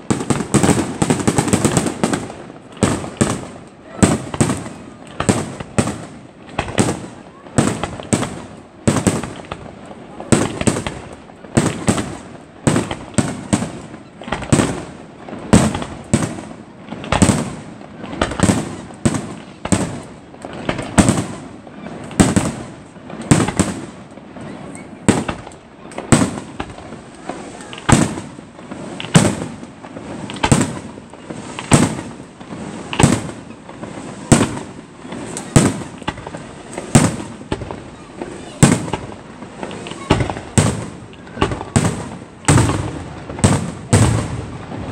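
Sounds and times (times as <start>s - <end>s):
fireworks bursting with echo: 0.0s - 44.9s.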